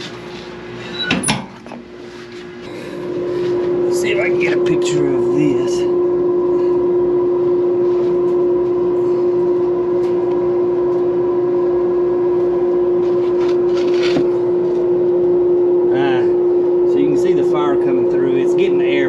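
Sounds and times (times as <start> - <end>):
draft fan humming: 0.0 - 19.0.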